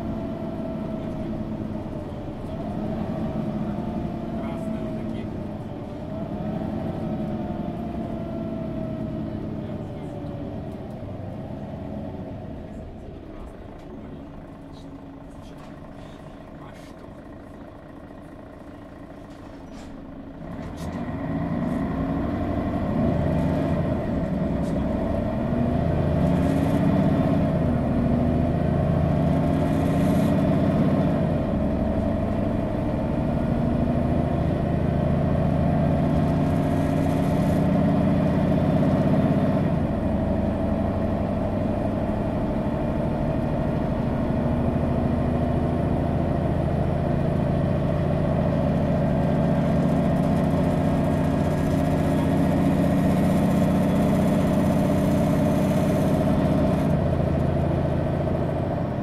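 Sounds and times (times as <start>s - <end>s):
bus diesel engine running: 0.0s - 59.0s.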